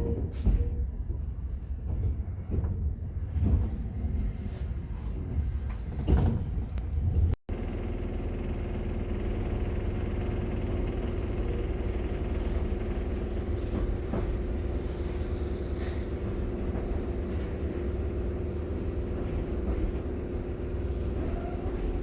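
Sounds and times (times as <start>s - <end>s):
electric train rumble: 0.0s - 22.0s.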